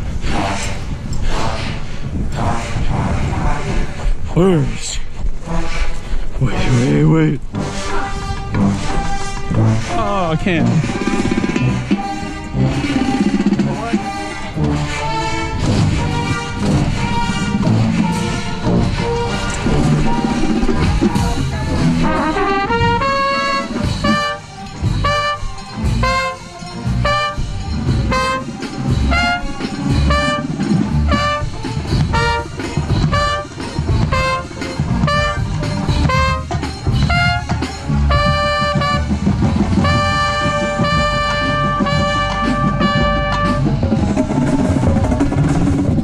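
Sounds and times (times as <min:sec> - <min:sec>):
trumpet: 0:02.3 - 0:03.8, 0:05.4 - 0:44.0
drums: 0:04.7 - 0:46.0
brass band chords: 0:05.4 - 0:46.0.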